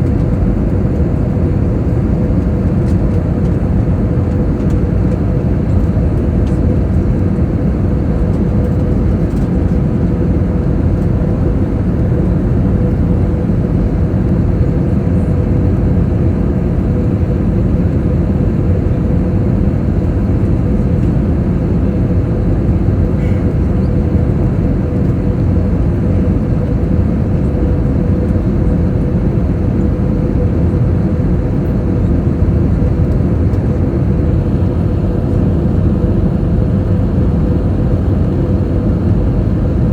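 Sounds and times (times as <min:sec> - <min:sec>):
airliner cabin engine hum: 0:00.0 - 0:39.9.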